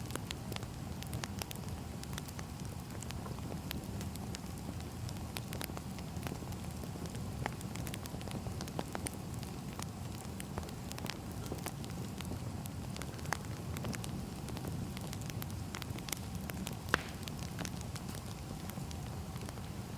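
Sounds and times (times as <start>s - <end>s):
firewood crackling and popping: 0.0s - 19.9s
low fire rumble: 0.0s - 19.9s.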